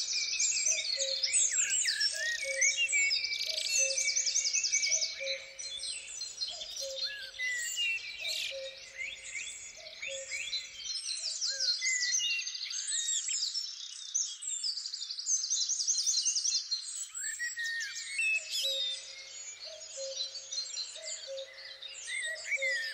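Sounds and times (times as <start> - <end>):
songbirds singing and chirping: 0.0 - 22.9.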